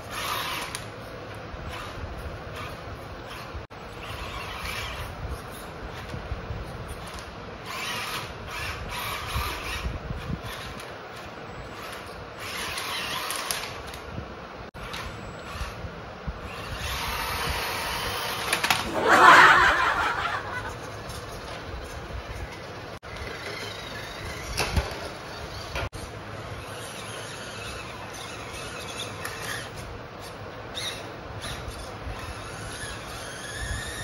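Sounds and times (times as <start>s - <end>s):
toy car motors whirring: 0.0s - 14.0s, 14.8s - 15.8s, 16.4s - 34.0s.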